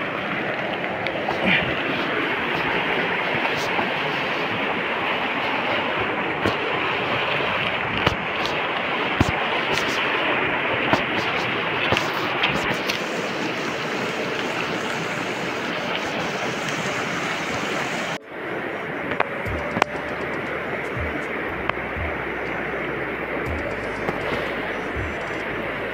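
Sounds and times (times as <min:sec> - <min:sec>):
river rushing over rocks: 0:00.0 - 0:25.9.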